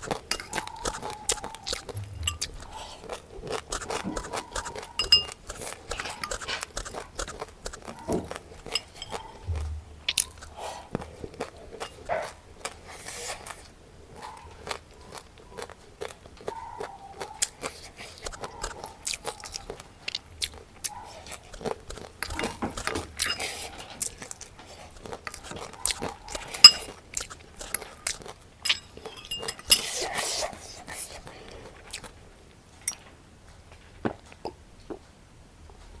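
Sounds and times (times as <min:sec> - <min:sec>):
person chewing and crunching food: 0:00.0 - 0:33.1.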